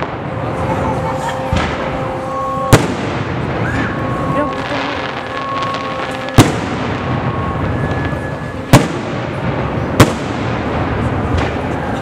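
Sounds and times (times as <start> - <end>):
fireworks display din: 0.0 - 12.0.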